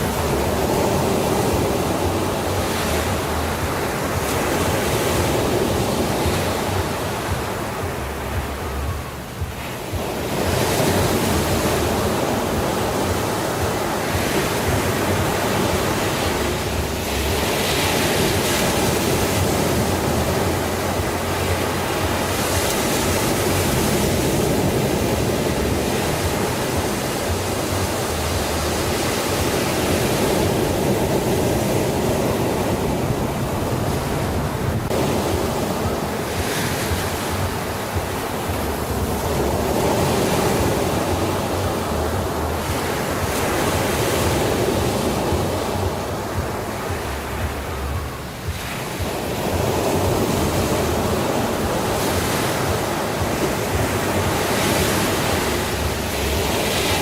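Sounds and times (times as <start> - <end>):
sea surf washing in: 0.0 - 57.0.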